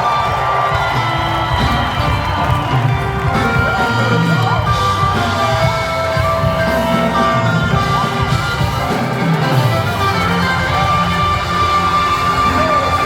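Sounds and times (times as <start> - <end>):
electric guitar: 0.0 - 13.0
live band music: 0.0 - 13.0
steady beat: 0.0 - 13.0.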